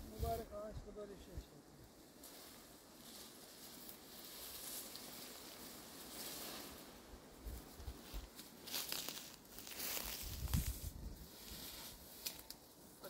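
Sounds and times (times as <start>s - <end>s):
dry vegetation rustling and crackling: 0.0s - 13.0s.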